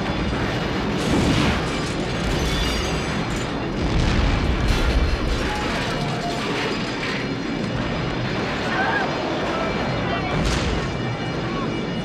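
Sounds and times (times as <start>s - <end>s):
deep explosion rumble: 0.0s - 11.5s.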